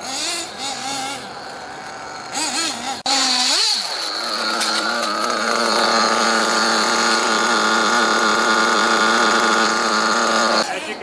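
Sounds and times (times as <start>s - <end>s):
small two-stroke engine idling: 0.0s - 10.7s.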